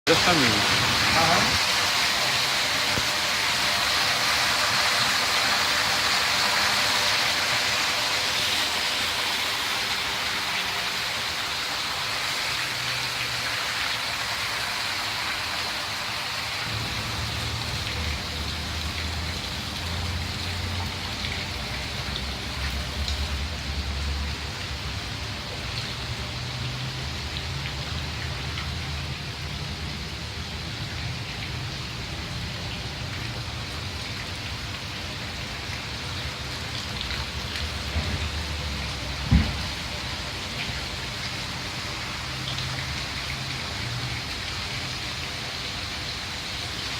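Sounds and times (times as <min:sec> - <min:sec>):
hiss of falling water: 0:00.1 - 0:46.9.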